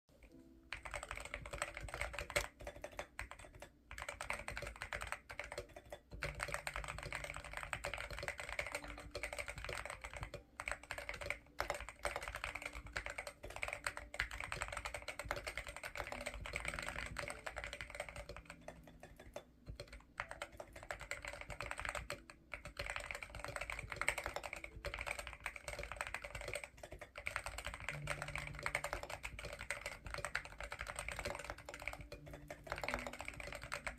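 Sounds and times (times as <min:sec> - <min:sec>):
mechanical keyboard key clacks: 0:00.7 - 0:33.9.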